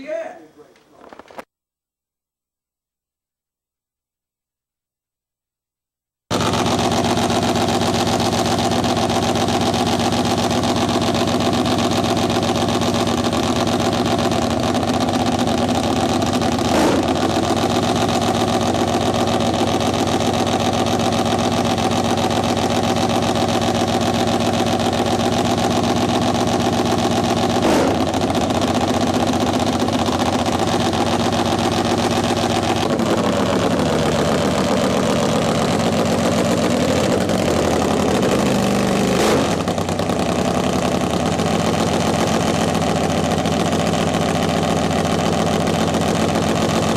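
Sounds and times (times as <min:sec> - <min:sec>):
motorcycle engine idling: 0:06.3 - 0:46.9.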